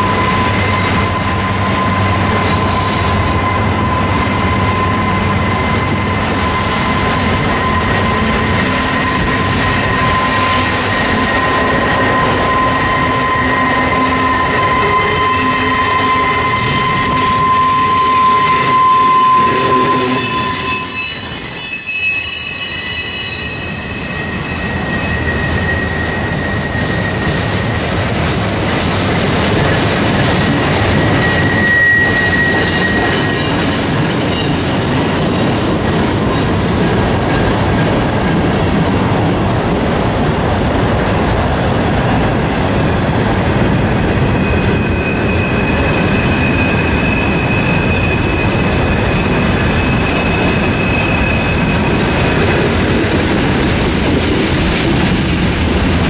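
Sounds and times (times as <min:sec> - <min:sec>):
train wheels squealing: 0:00.0 - 0:38.9, 0:41.1 - 0:56.0
rumble and clatter of train cars: 0:00.0 - 0:56.0.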